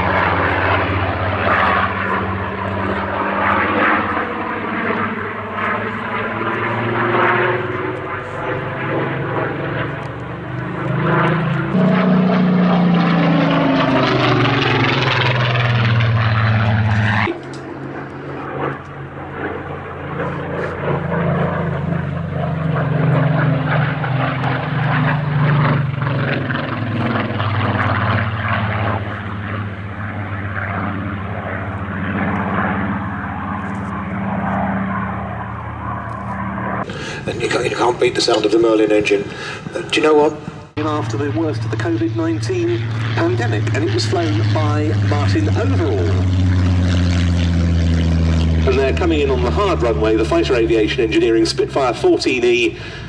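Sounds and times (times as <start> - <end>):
piston aircraft engine fly-past: 0.0 - 53.0.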